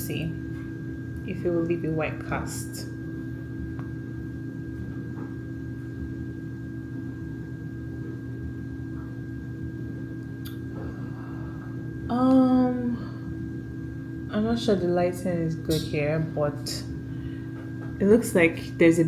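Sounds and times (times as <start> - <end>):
indoor hum with high whine: 0.0 - 19.0.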